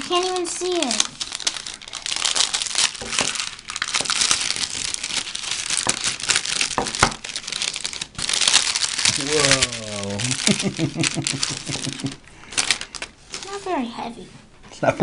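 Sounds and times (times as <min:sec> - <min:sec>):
tissue paper crinkling: 0:00.0 - 0:13.9.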